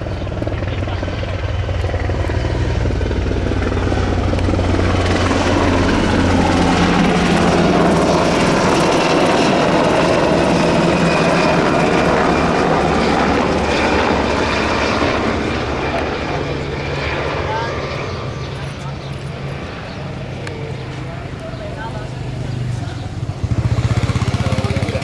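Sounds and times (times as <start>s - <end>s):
helicopter flying close by: 0.0s - 25.0s.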